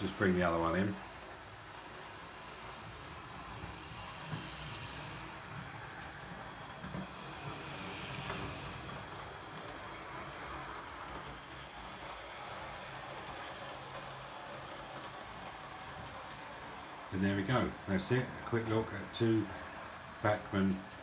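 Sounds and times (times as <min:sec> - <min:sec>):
model train motors whirring: 0:00.0 - 0:21.0
wheels rolling on rails: 0:00.0 - 0:21.0.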